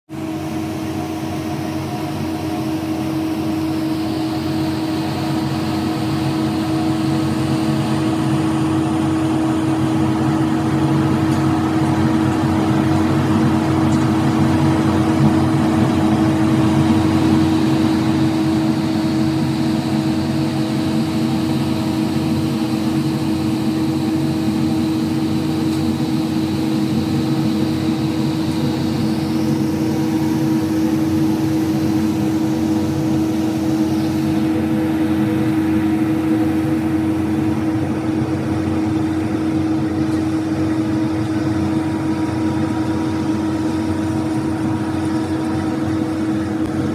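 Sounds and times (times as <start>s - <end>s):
road sweeper engine hum: 0.1s - 46.9s.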